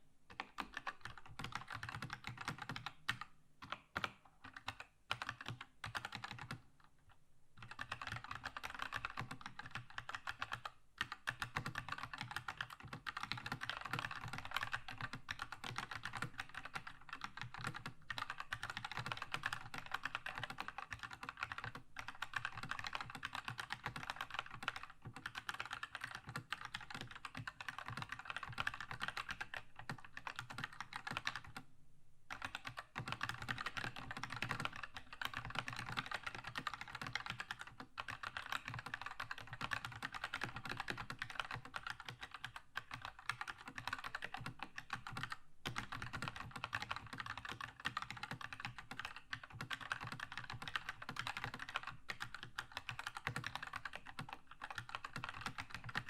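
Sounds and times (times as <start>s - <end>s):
fast typing on mechanical keyboard: 0.3s - 6.6s, 7.6s - 31.6s, 32.3s - 56.0s.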